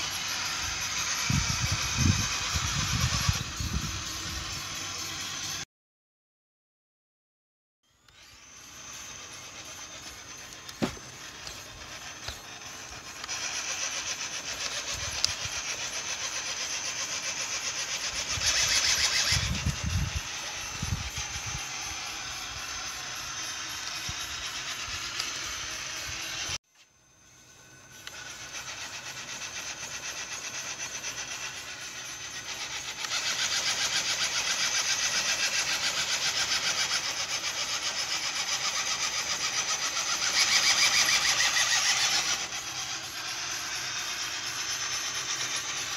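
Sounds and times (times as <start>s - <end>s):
electric motor whirring: 0.0s - 5.6s, 7.9s - 45.9s.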